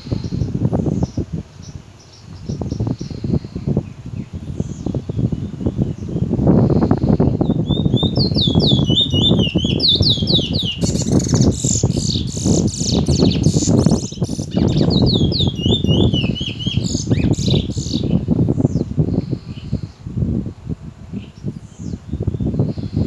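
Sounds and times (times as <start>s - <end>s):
bullfinch singing: 0.0s - 20.0s.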